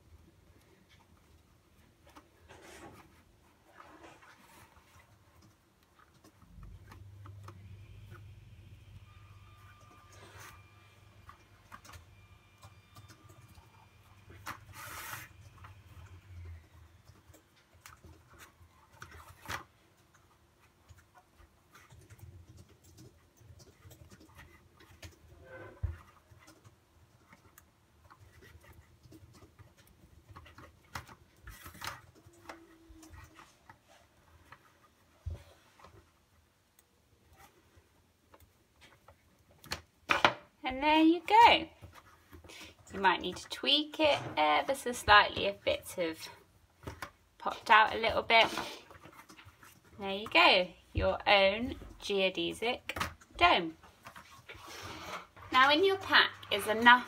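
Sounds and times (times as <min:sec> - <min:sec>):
faint rustling and scratching: 0:00.0 - 0:40.0, 0:40.6 - 0:57.0.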